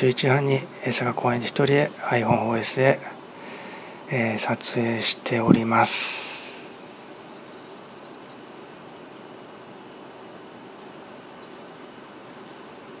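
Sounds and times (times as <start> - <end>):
cicadas shrilling: 0.0 - 13.0.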